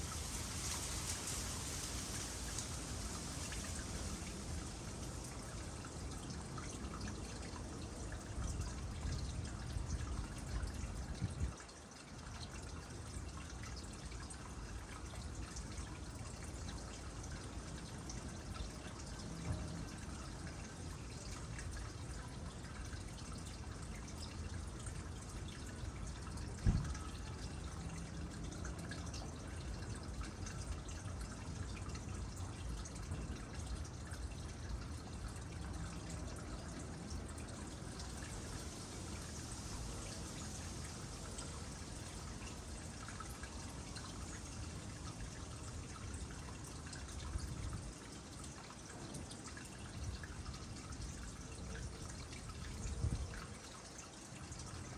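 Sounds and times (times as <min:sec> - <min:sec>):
water trickling into pond: 0:00.0 - 0:54.9.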